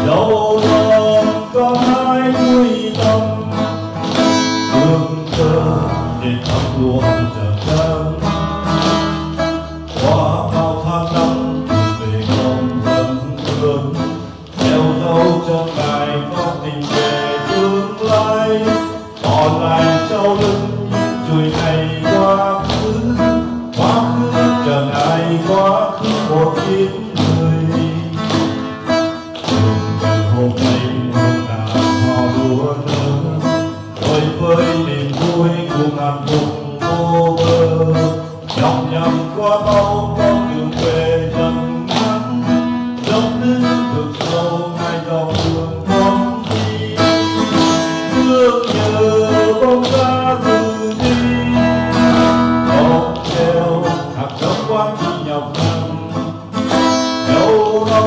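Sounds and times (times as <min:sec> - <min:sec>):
acoustic guitar strumming: 0:00.0 - 0:58.0
man singing into a microphone: 0:00.0 - 0:58.0.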